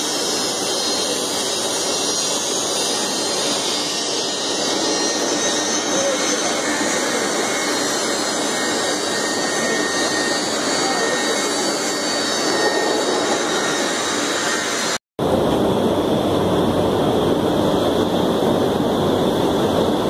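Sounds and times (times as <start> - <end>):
loud machinery roar: 0.0 - 20.0.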